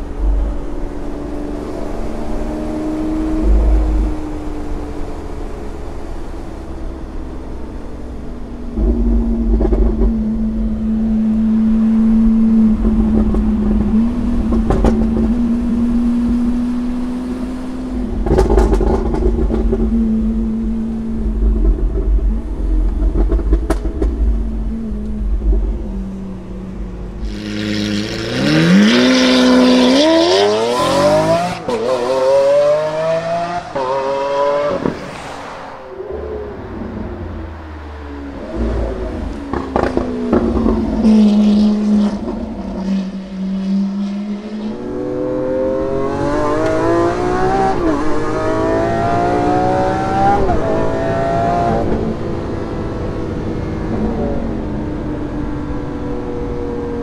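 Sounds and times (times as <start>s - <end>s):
car engine drone from cabin: 0.0s - 57.0s
car engine hard acceleration: 0.0s - 57.0s.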